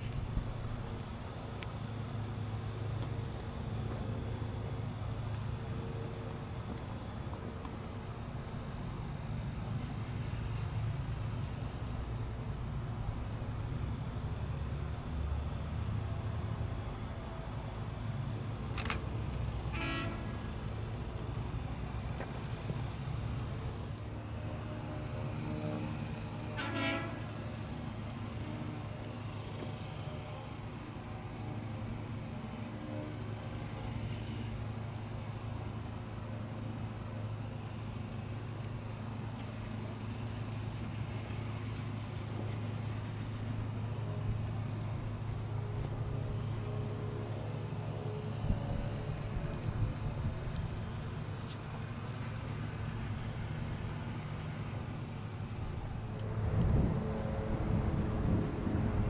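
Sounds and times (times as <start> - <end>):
insects trilling: 0.0 - 56.2.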